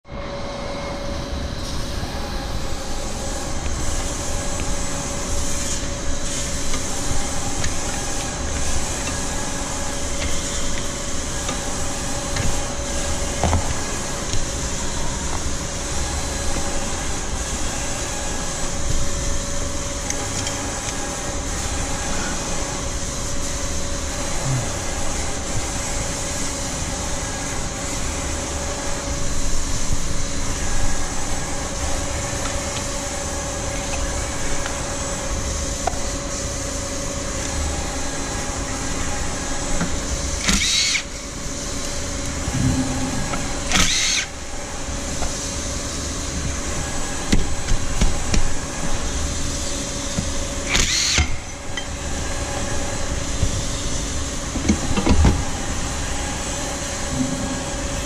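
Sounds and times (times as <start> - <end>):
vacuum pump whining: 0.0 - 58.0.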